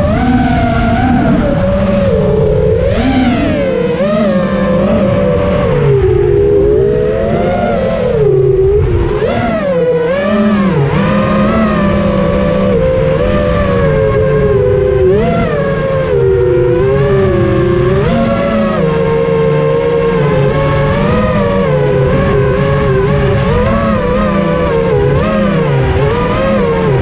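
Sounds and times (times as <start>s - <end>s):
drone motors whining: 0.0s - 27.0s
wind rushing over microphone: 0.0s - 27.0s.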